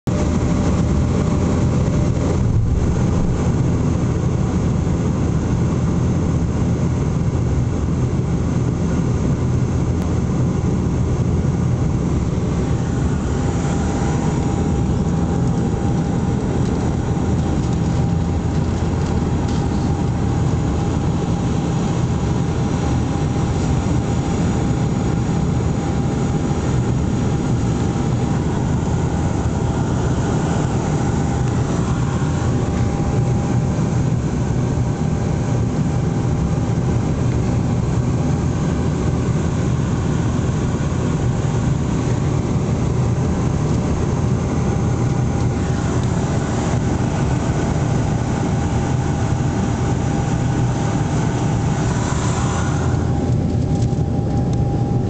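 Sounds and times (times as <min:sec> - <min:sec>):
turboprop aircraft cabin drone: 0:00.0 - 0:55.0.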